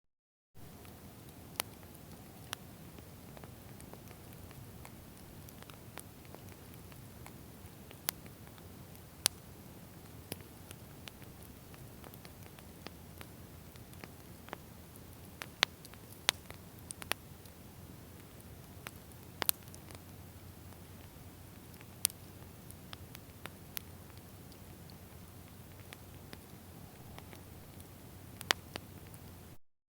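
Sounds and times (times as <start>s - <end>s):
faint low hiss: 0.6s - 29.6s
wood fire crackling: 0.6s - 29.6s.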